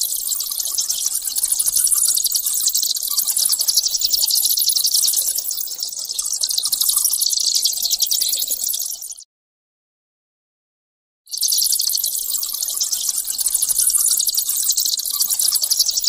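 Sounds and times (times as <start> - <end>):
bats squeaking and chittering: 0.0 - 9.2, 11.3 - 16.0.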